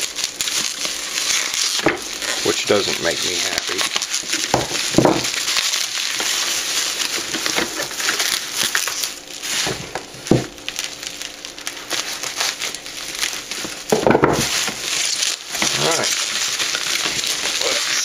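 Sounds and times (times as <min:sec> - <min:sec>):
packaging crinkling and rustling: 0:00.0 - 0:18.0.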